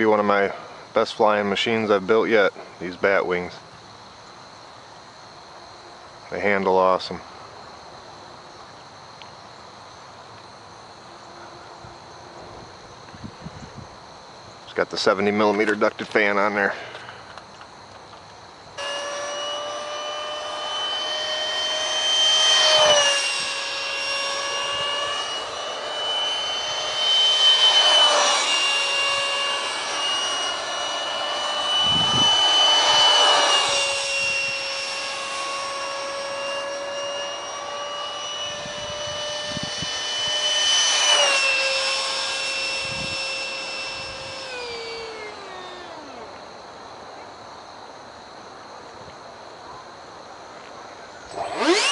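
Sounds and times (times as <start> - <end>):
electric ducted fan jet whine: 0.0 - 51.9.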